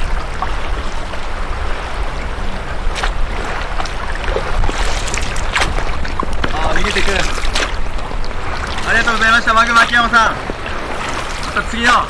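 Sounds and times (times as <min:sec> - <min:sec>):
oars dipping in water: 0:00.0 - 0:12.0
water lapping around boat: 0:00.0 - 0:12.0
wind rumble on microphone: 0:00.0 - 0:12.0.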